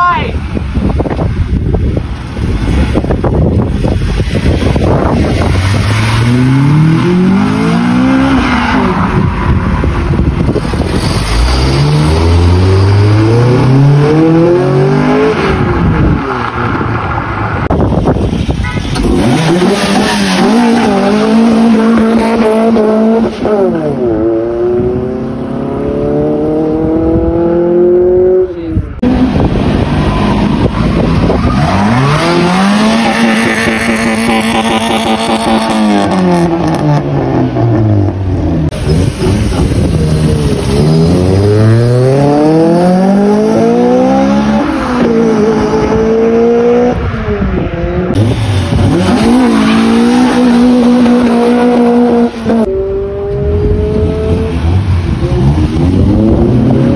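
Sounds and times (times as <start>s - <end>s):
car engines revving hard: 0.6s - 56.9s.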